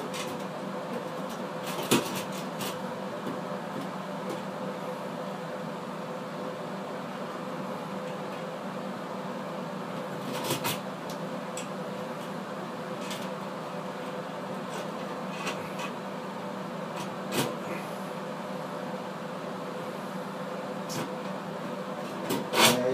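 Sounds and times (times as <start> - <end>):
steady mechanical hum: 0.0 - 22.9.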